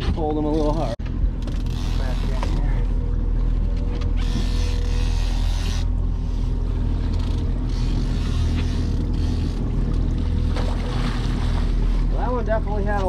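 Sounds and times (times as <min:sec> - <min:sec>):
outboard motors humming: 0:00.0 - 0:13.0.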